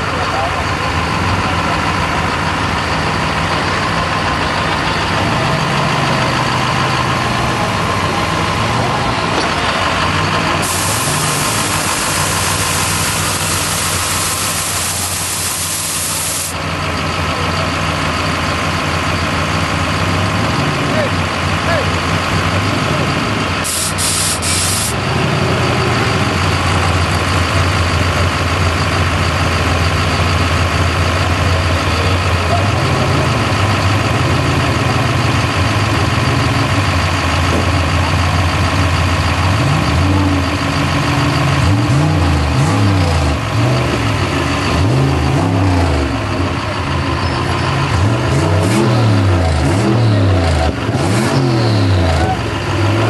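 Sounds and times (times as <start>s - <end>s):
pickup truck engine idling and revving: 0.0s - 53.0s.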